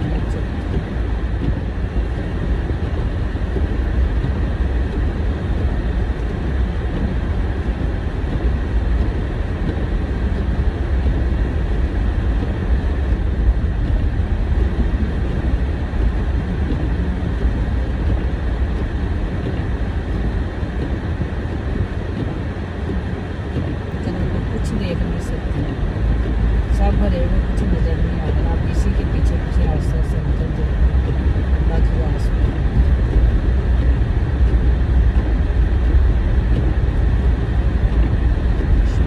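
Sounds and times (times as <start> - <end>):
car interior driving rumble: 0.0 - 39.0.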